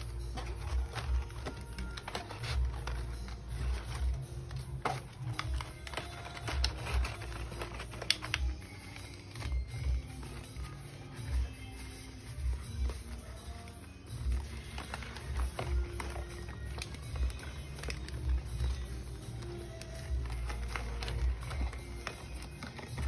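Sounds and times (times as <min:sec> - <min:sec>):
plastic and cardboard crinkling: 0:00.0 - 0:23.0.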